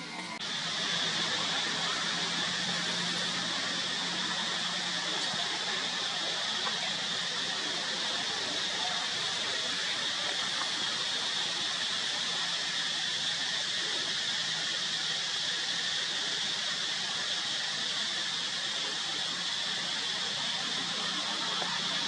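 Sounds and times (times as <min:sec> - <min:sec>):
forest background hiss: 0:00.0 - 0:22.0.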